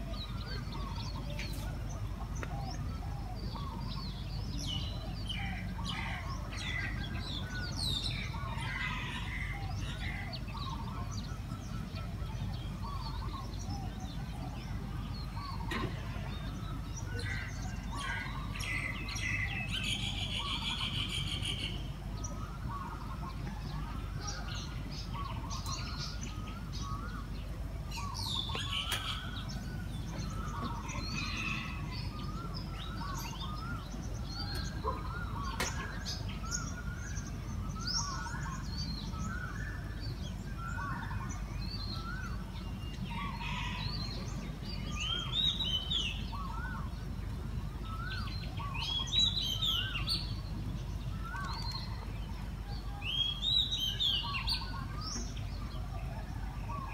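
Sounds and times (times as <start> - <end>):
birds chirping and calling: 0.0 - 56.9.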